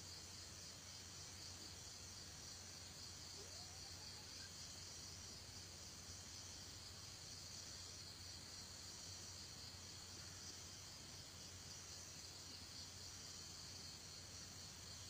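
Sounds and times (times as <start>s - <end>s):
faint drone of insects: 0.0s - 15.0s.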